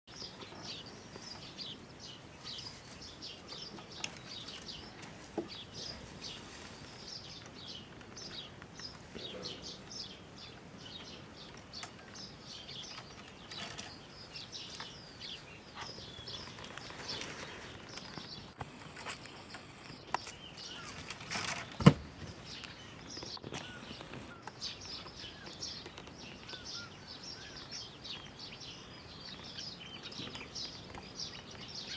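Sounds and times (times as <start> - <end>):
small birds chirping: 0.1 - 31.9.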